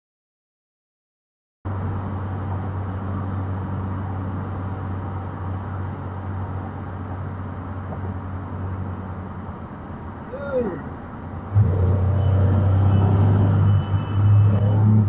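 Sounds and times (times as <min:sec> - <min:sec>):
car road and engine noise: 0:01.7 - 0:15.0.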